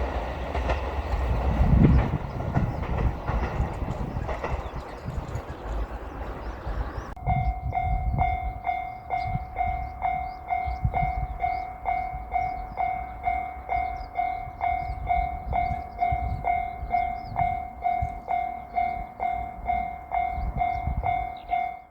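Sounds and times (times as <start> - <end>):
level-crossing warning bell: 0.0 - 21.9
train passing: 0.0 - 21.9.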